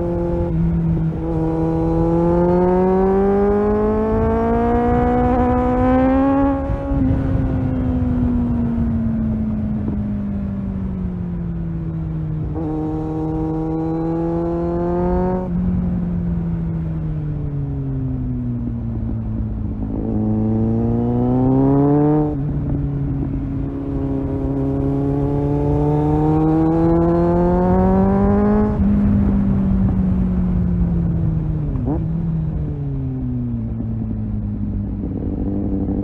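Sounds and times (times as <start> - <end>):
motorcycle engine revving: 0.0 - 10.0, 10.8 - 18.4, 19.0 - 36.0.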